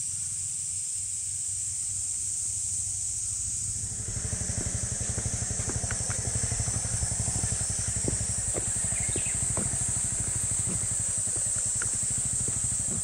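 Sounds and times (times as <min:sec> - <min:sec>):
motorcycle engine idling: 0:01.5 - 0:13.0.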